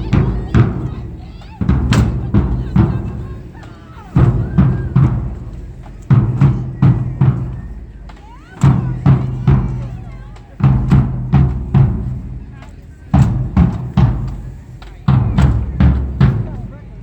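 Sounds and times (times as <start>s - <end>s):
marching drumline cadence: 0.0s - 17.0s.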